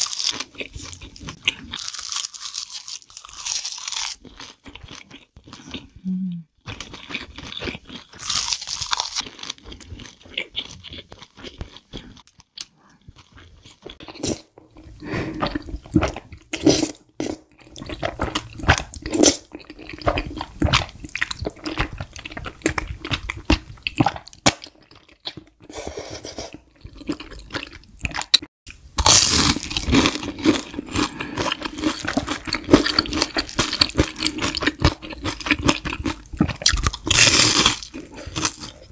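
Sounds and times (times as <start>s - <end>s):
chewing and crunching: 0.0s - 5.9s, 6.6s - 25.7s, 26.5s - 38.9s.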